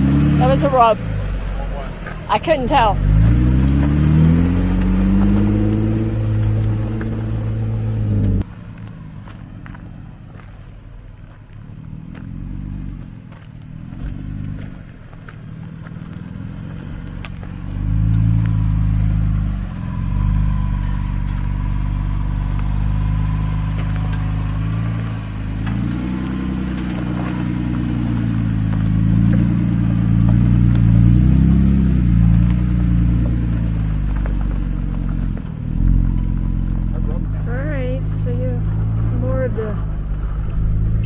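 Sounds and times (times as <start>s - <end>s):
jeep engine running slowly: 0.0s - 41.0s.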